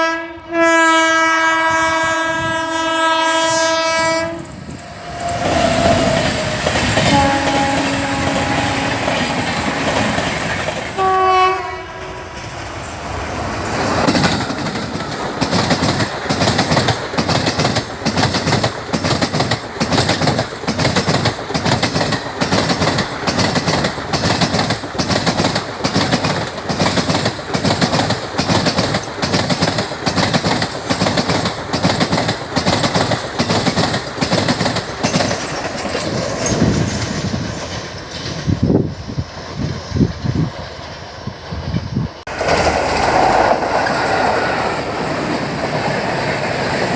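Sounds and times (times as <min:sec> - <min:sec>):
train rumble: 0:00.0 - 0:46.9
train wheels clattering over rail joints: 0:04.2 - 0:11.2, 0:12.4 - 0:40.9, 0:42.2 - 0:46.9.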